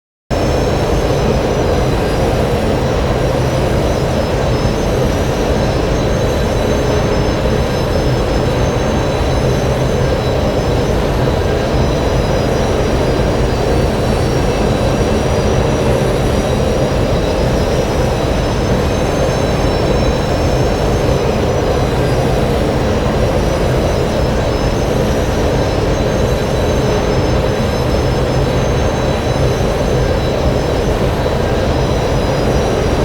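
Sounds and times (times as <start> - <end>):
spaceship engine drone: 0.3 - 33.0.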